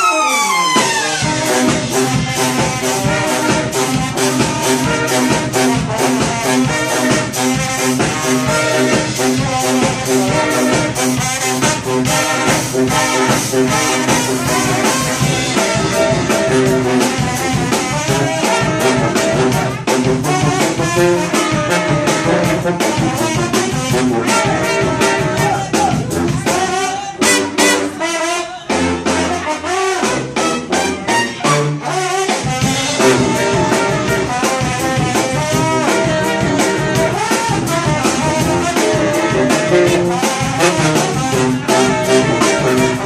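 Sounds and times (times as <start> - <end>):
brass band playing: 0.0 - 43.0
steady drum beat: 0.1 - 43.0.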